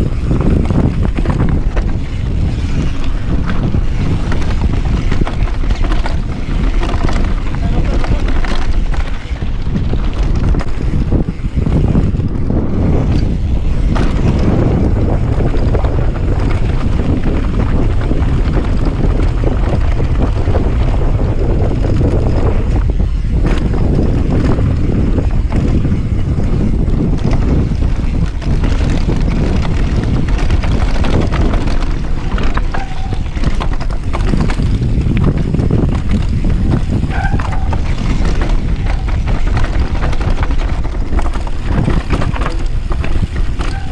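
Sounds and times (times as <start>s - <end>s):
bike knocks and rattles: 0.0s - 43.9s
tyres rumbling over dirt: 0.0s - 43.9s
wind on microphone: 0.0s - 43.9s.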